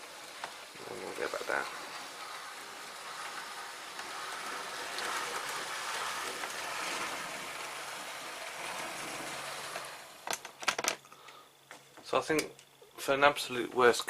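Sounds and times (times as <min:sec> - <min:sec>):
model train whirring and rattling: 0:00.0 - 0:11.4.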